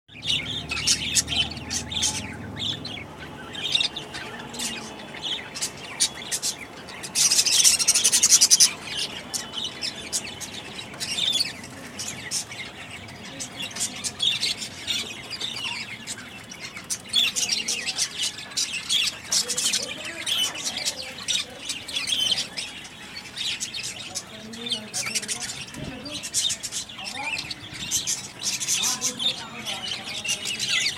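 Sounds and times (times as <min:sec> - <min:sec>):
birds chirping: 0:00.1 - 0:30.9.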